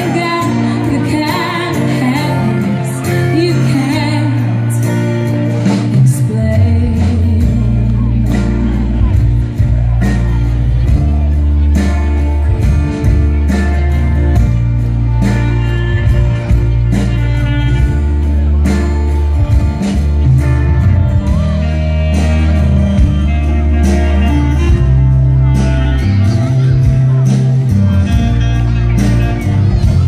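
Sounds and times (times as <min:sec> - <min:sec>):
bass: 0:00.0 - 0:30.0
drums: 0:00.0 - 0:30.0
guitar melody: 0:00.0 - 0:30.0.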